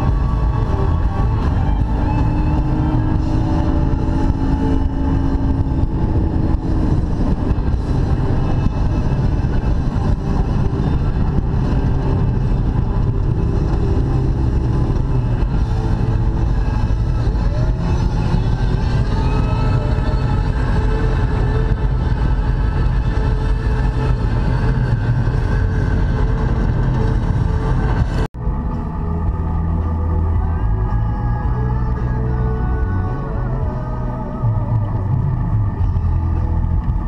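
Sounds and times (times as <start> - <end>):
powerboat engine rumble: 0.0 - 37.0.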